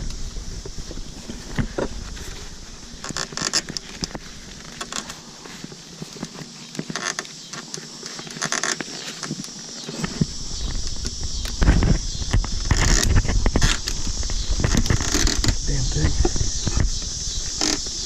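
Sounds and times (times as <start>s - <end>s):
beehive equipment creaks and clicks: 0.0s - 18.0s.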